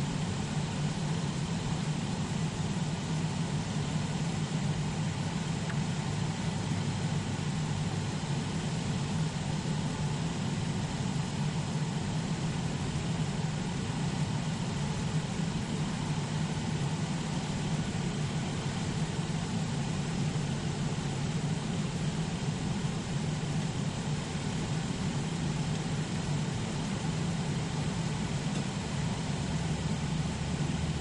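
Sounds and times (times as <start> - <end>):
air conditioning hiss: 0.0 - 31.0.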